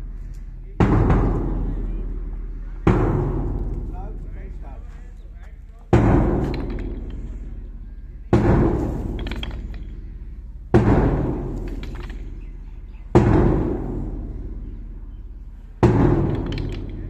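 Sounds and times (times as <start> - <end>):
bass drum beats: 0.0 - 4.8, 5.6 - 15.1.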